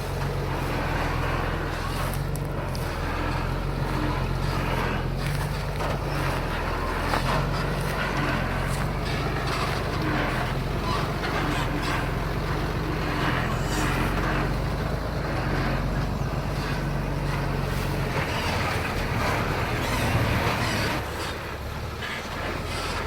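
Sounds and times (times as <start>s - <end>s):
diesel machinery droning: 0.0s - 23.0s.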